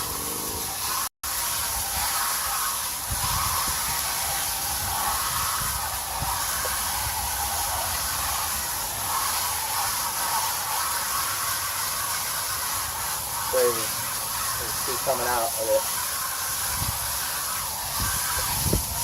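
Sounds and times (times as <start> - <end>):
garden hose spraying water: 0.0 - 19.0.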